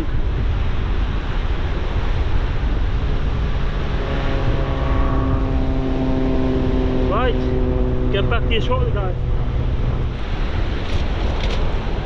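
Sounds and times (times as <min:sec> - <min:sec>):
low-flying aircraft engine drone: 0:00.0 - 0:12.0
wind buffeting microphone: 0:00.0 - 0:12.0.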